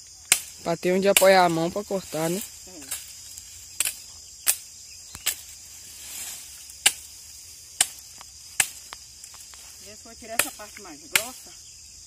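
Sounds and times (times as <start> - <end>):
high insect chirr: 0.0 - 12.0
machete chopping branches: 0.2 - 9.6, 10.3 - 11.5.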